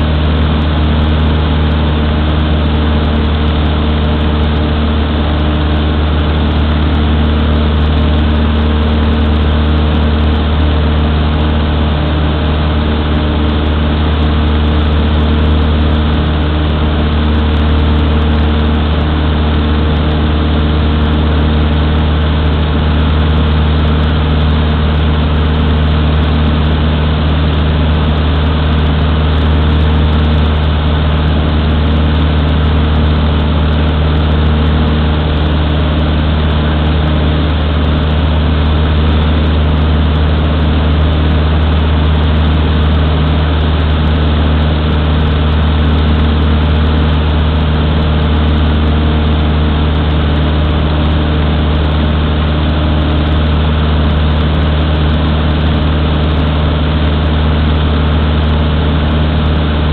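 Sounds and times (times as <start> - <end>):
airplane engine and propeller drone: 0.0 - 59.9.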